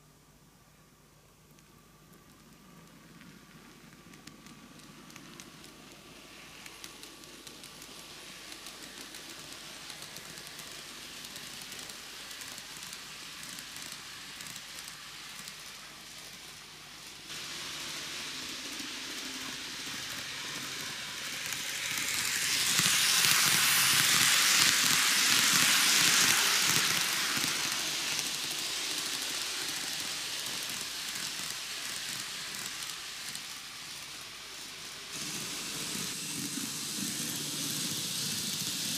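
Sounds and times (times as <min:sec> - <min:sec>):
model train running on track: 0:01.5 - 0:38.9.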